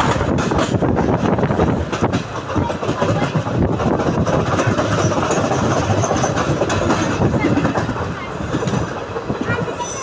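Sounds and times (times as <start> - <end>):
train wheels rumbling: 0.0 - 10.0
wind: 0.0 - 10.0.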